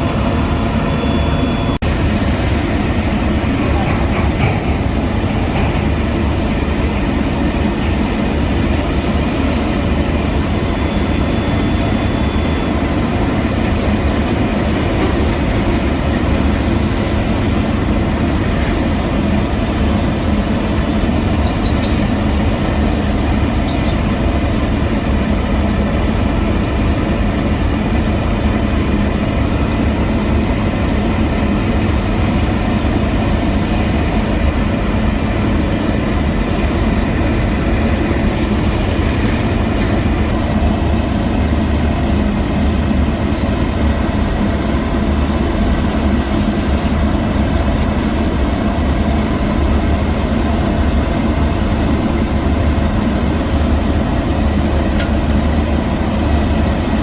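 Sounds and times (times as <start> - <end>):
diesel machinery engine rumble: 0.0 - 57.0.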